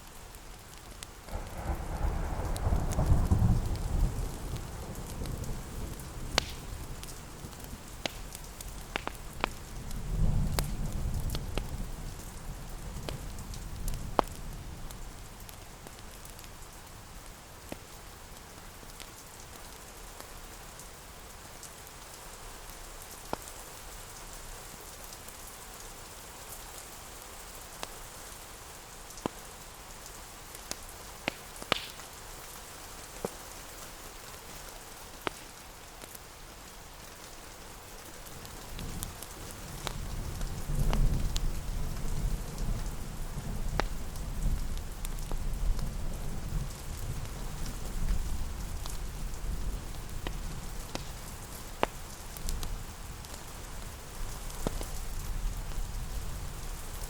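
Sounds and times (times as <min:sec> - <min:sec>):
fireplace crackles: 0:00.0 - 0:25.5, 0:26.5 - 0:57.0
steady rain: 0:00.0 - 0:57.0.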